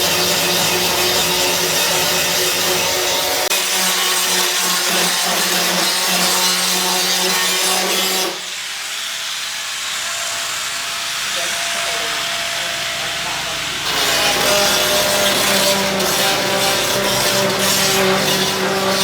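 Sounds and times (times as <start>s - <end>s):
power tool whining on wood: 0.0s - 19.0s.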